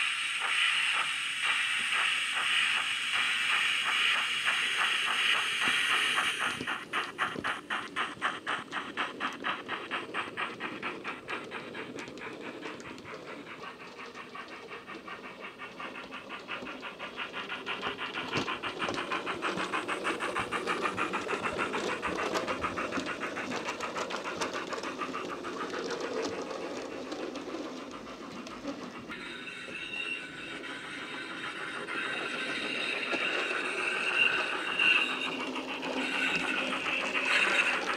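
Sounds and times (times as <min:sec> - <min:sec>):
steam locomotive chuffing from speaker: 0:00.0 - 0:37.9.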